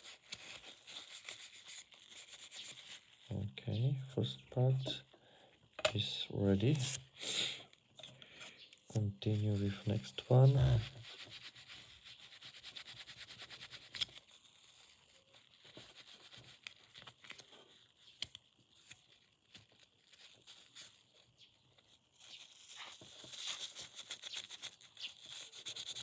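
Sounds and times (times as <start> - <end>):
rubbing on plastic: 0.0 - 5.1, 8.6 - 26.0.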